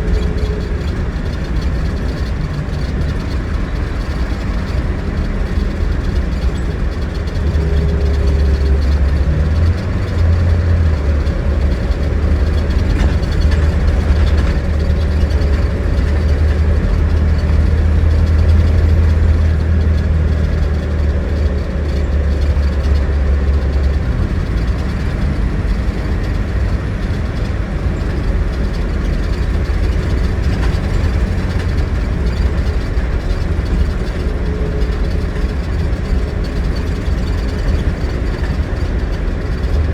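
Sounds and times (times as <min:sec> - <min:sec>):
coach diesel engine rumbling: 0:00.0 - 0:39.9.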